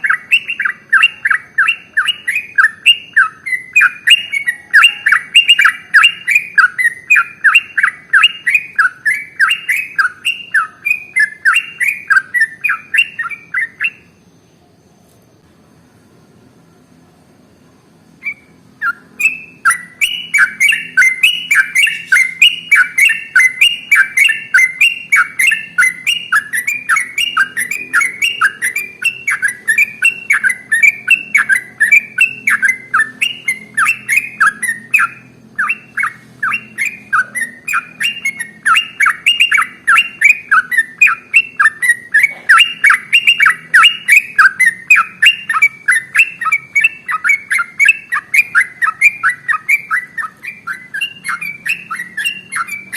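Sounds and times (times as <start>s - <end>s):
bird chattering song: 0.0s - 15.2s, 18.2s - 52.9s.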